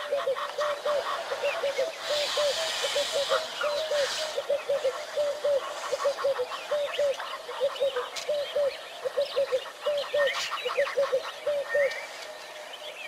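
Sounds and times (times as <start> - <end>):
birds chirping and whistling: 0.0 - 13.0.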